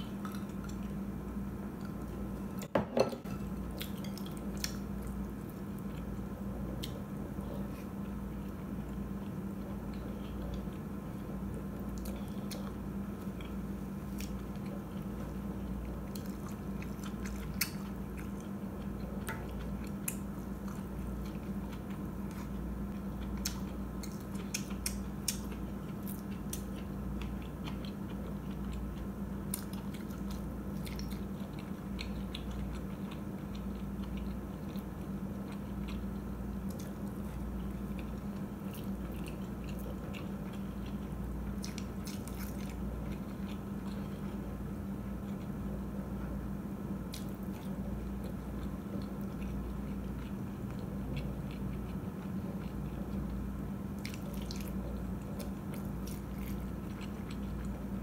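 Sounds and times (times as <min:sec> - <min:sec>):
steady low hum: 0:00.0 - 0:58.0
close chewing and biting: 0:03.8 - 0:44.6, 0:47.1 - 0:58.0.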